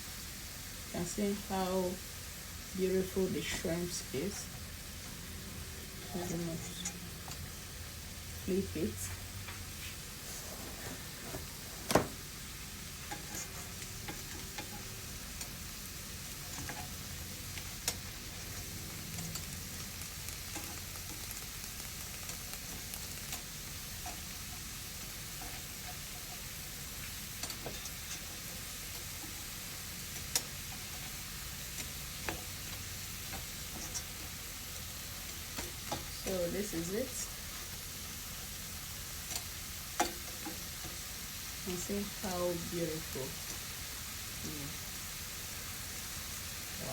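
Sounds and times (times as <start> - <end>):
shrimp sizzling in a pan: 0.0 - 46.9.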